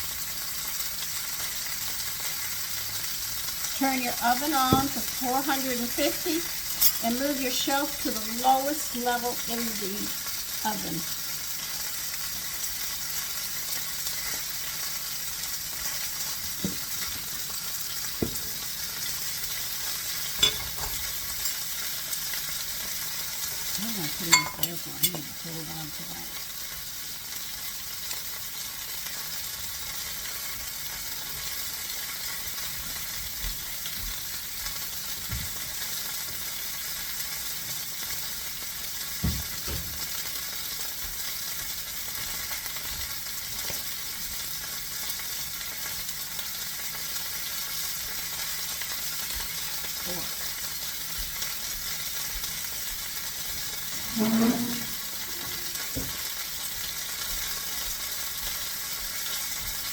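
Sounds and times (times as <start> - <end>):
chicken sizzling in a pan: 0.0 - 59.9.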